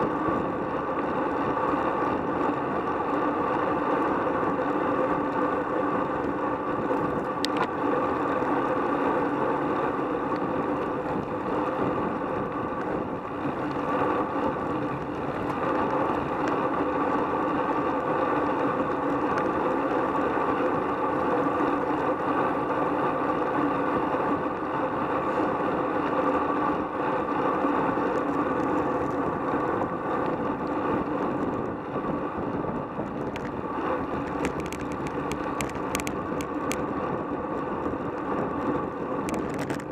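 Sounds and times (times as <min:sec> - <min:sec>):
constant hum: 0:00.0 - 0:39.9
road noise: 0:00.0 - 0:39.9
wind rush: 0:00.0 - 0:39.9.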